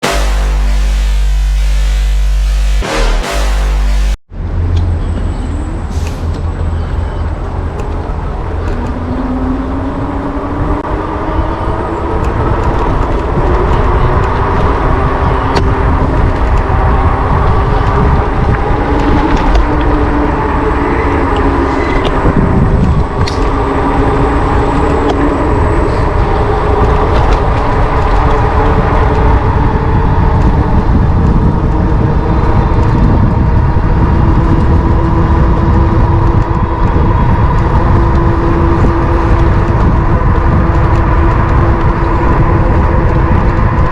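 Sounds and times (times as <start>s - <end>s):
wind and road rumble: 0.0s - 43.9s.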